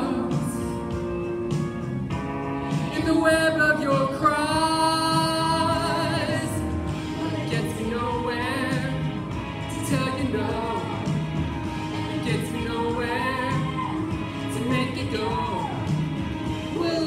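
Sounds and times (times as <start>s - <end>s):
woman singing pop song: 0.0s - 1.7s, 2.5s - 17.0s
backing track: 0.0s - 17.0s.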